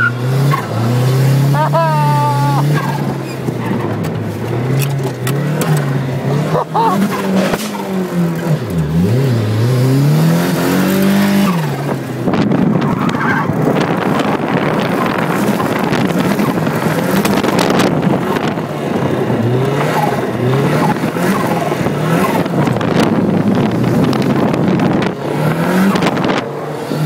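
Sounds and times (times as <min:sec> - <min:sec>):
car engine: 0:00.0 - 0:27.0
rushing wind: 0:02.0 - 0:27.0.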